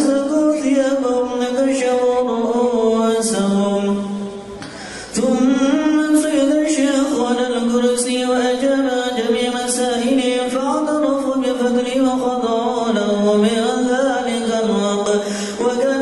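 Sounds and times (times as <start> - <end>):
man chanting: 0.0 - 4.4, 5.1 - 16.0.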